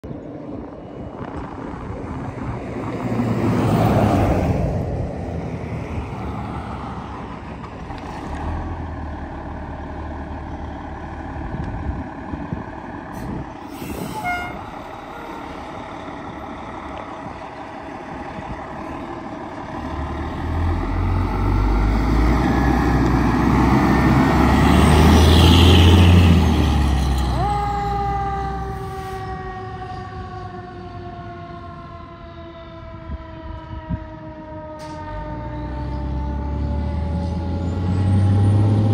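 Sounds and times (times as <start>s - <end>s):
fire engine diesel revving: 3.1s - 31.9s, 34.6s - 38.9s.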